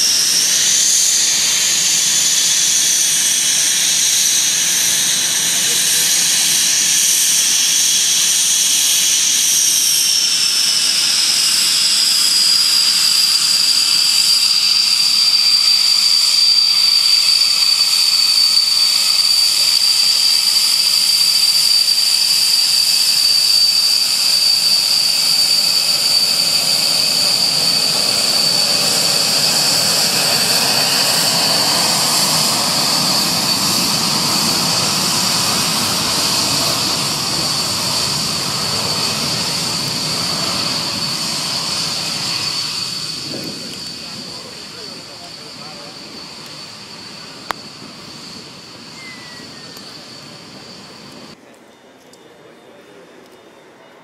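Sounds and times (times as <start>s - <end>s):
rushing jet noise: 0.0s - 51.4s
jet engine whine: 0.0s - 54.0s.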